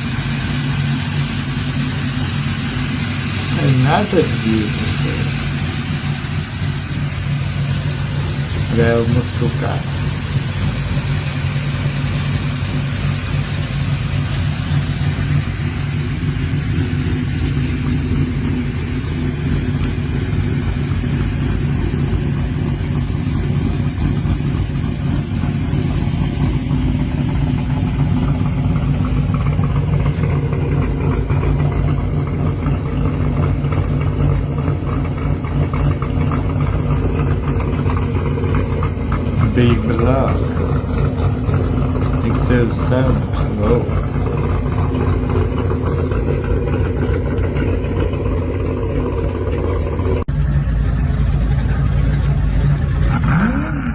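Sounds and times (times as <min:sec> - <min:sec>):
car engine rumbling at low revs: 0:00.0 - 0:53.9.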